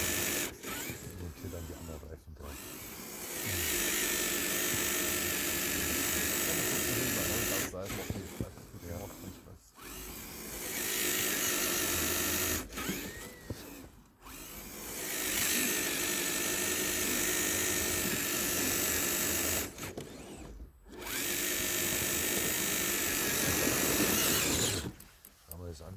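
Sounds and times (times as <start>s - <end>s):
electric motor and gears whining: 0.0s - 25.9s.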